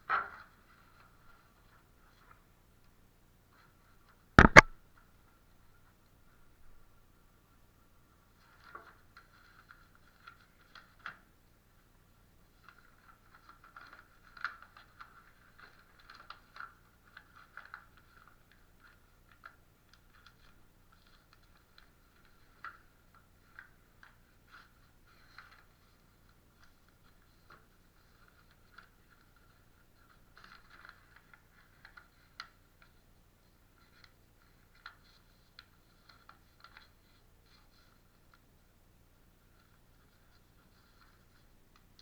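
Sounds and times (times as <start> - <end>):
faint clicking and tapping: 0.1 - 6.5, 7.8 - 42.0.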